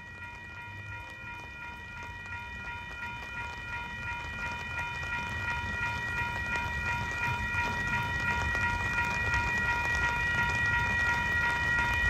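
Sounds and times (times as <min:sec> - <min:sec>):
freight train rumbling: 0:00.0 - 0:12.0
railroad crossing bell ringing: 0:00.0 - 0:12.0.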